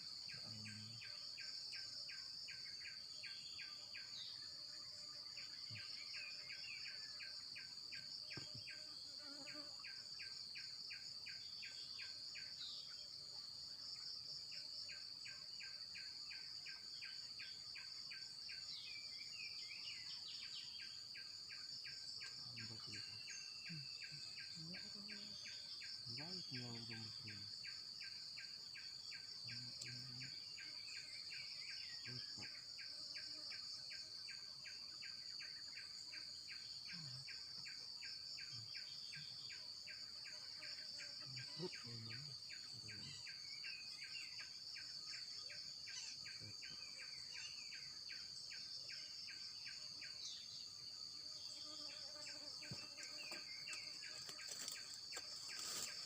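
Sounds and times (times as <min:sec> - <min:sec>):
insects chirping: 0:00.0 - 0:56.0
insects droning: 0:00.0 - 0:56.0.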